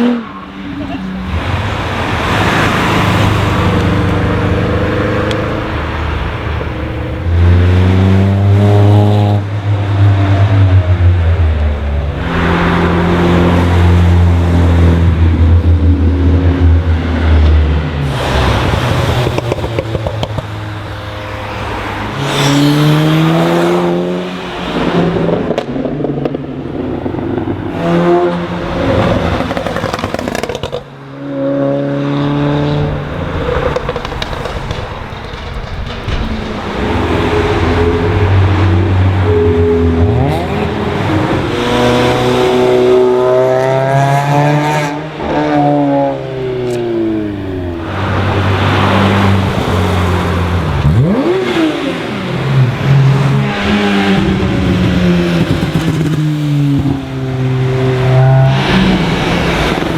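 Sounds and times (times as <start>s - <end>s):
loud low engine note: 0.0s - 24.4s, 32.3s - 59.9s
cars accelerating past: 0.0s - 59.9s.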